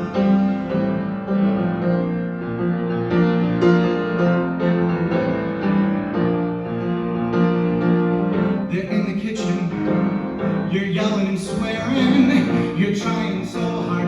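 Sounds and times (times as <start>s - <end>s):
piano playing sustained chords: 0.0s - 14.0s.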